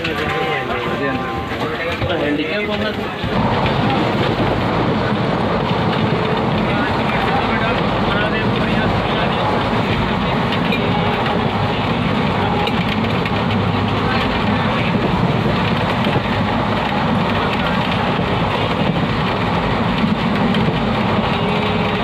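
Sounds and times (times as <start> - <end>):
train coach rattling: 0.0 - 22.0
train wheels rolling on rails: 0.0 - 22.0.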